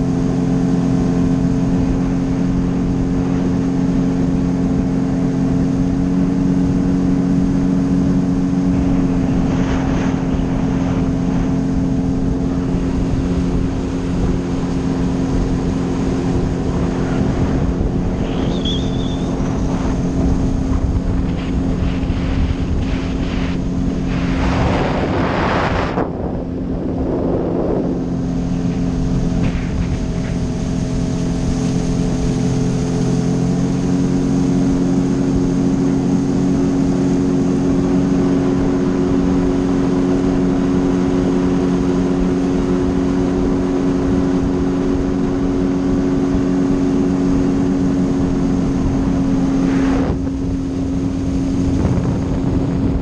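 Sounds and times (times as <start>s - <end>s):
watercraft engine drone: 0.0s - 53.0s.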